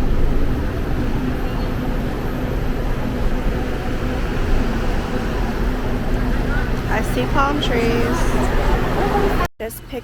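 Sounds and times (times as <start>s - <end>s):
vehicle interior rumble: 0.0s - 10.0s.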